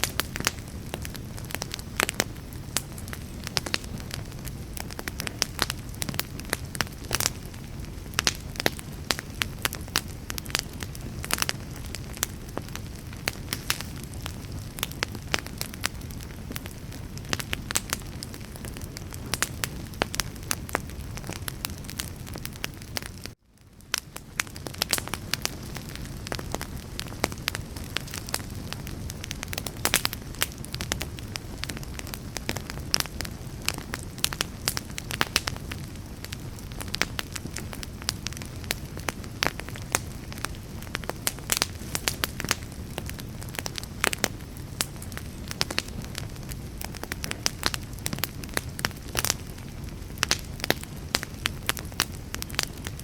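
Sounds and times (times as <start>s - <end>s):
low rush of fire: 0.0s - 53.0s
wood fire crackling and popping: 0.0s - 53.0s.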